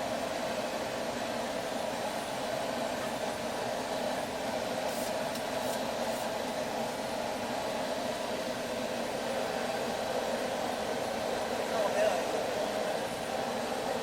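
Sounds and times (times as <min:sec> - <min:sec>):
propane forge hissing: 0:00.0 - 0:14.0.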